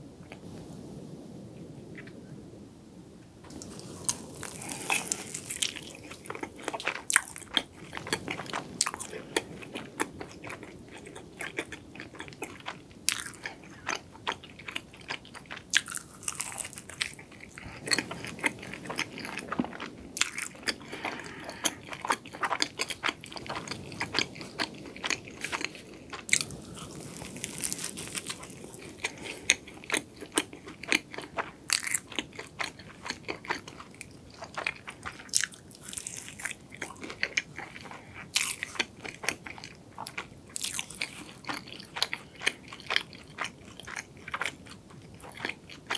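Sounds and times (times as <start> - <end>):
crunchy pastry chewing: 3.5 - 45.9.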